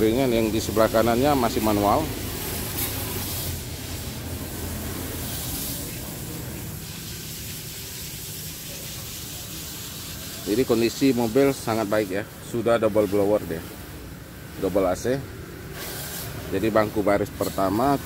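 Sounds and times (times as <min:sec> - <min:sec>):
steady hissing noise: 0:00.0 - 0:18.0.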